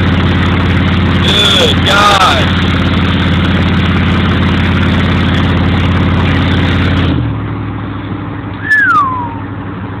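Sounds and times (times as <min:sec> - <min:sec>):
loud engine exhaust drone: 0:00.0 - 0:10.0.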